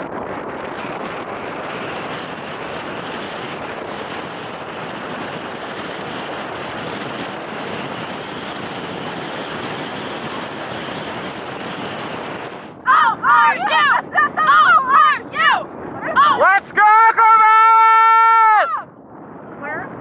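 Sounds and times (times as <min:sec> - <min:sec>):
choppy lake water: 0:00.0 - 0:20.0
wind: 0:00.0 - 0:20.0.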